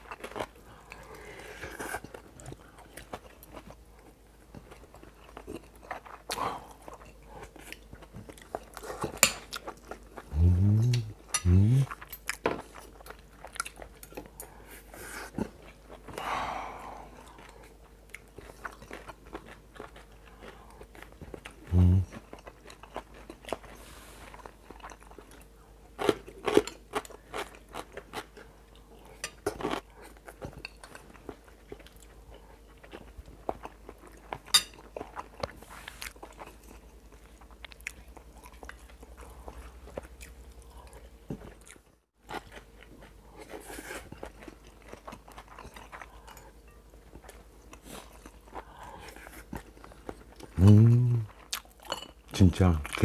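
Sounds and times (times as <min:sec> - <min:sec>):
chewing and crunching: 0:00.0 - 0:53.0.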